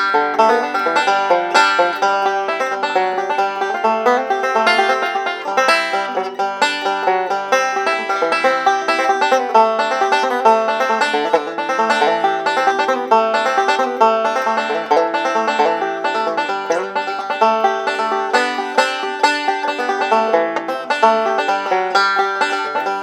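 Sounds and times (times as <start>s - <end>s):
banjo playing fast bluegrass: 0.0s - 23.0s.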